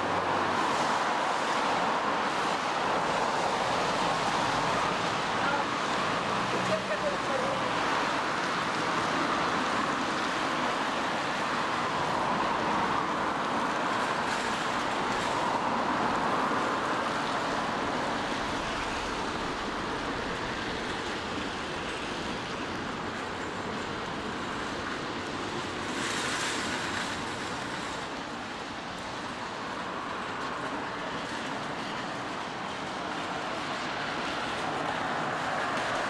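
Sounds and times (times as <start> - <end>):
rain: 0.0 - 36.0
traffic on wet roads: 0.0 - 36.0.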